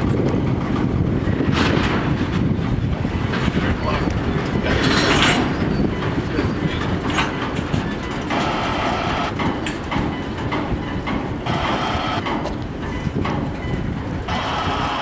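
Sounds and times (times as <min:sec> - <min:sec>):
freight train rolling past: 0:00.0 - 0:15.0
wheels clicking over rail joints: 0:00.0 - 0:15.0.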